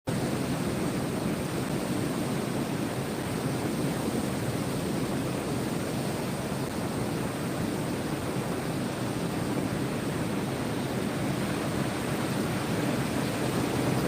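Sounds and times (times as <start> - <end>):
ocean surf rushing: 0.1 - 14.0.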